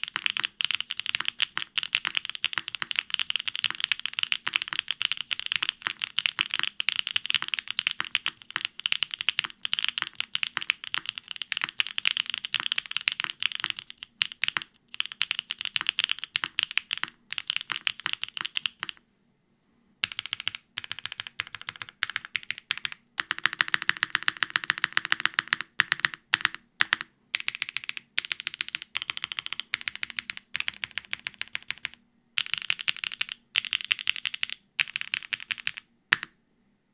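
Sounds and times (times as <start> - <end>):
mechanical keyboard typing: 0.0 - 19.0, 20.0 - 36.3.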